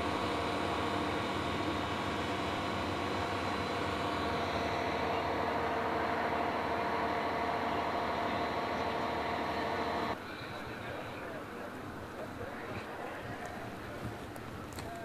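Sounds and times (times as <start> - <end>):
heavy engine humming: 0.0 - 15.0.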